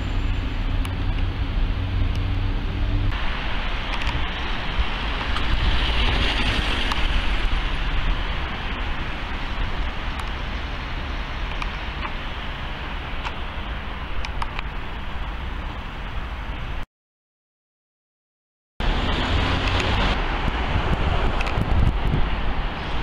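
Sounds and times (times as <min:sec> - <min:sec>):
cars passing on street: 0:00.0 - 0:16.8, 0:18.8 - 0:23.0.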